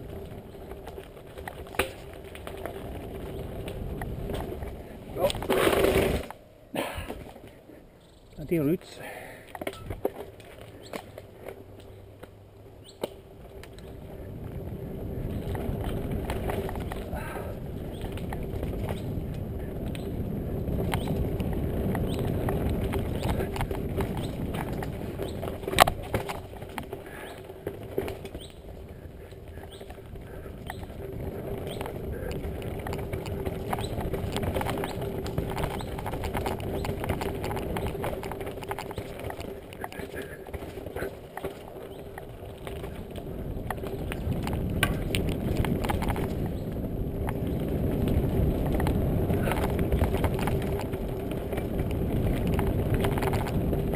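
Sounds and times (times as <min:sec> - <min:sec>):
bike clicks and knocks: 0:00.0 - 0:08.2, 0:09.4 - 0:53.9
bike tyres on dirt: 0:00.0 - 0:53.9
rush of wind: 0:00.0 - 0:53.9.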